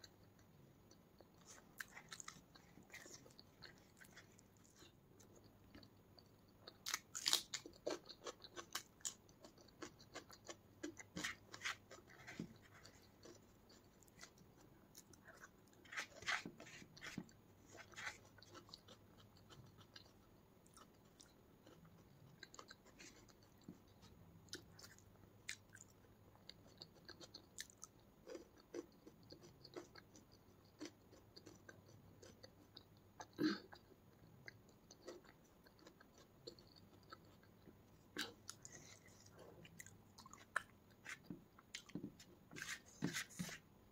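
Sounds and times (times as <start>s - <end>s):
chewing with wet mouth clicks: 0.0s - 15.5s, 18.3s - 42.0s.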